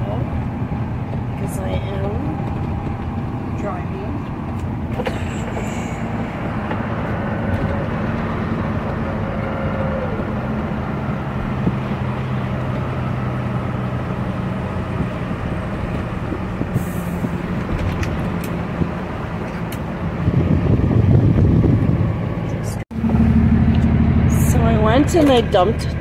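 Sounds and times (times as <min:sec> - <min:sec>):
road and tyre noise: 0:00.0 - 0:26.0
truck engine hum: 0:00.0 - 0:26.0.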